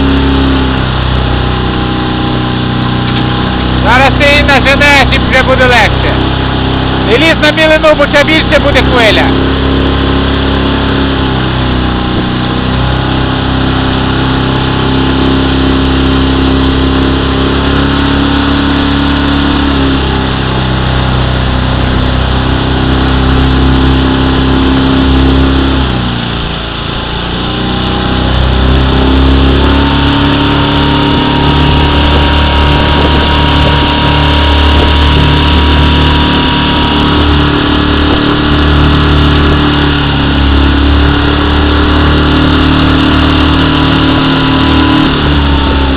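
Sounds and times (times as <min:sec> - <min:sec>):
motorboat engine running: 0:00.0 - 0:45.9.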